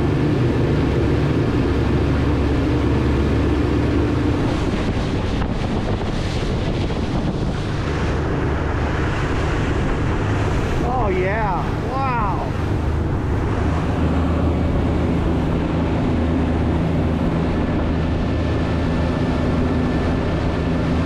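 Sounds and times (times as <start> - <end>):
churning boat wake: 0.0 - 21.0
outboard motors droning: 0.0 - 21.0
wind on microphone: 0.0 - 21.0.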